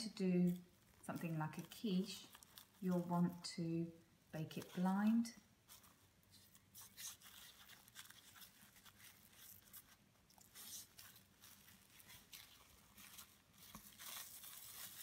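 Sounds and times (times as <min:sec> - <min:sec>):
cling film crinkling: 0:00.0 - 0:03.7, 0:04.3 - 0:15.0.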